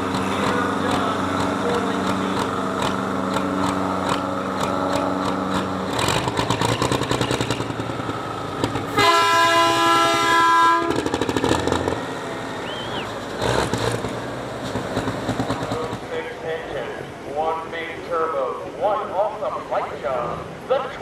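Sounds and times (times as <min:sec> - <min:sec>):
engines idling and clattering: 0:00.0 - 0:21.0.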